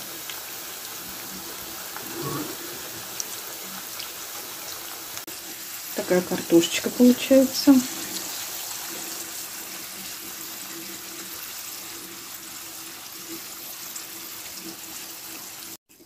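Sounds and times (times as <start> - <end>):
potato slices sizzling in oil: 0.0 - 16.0.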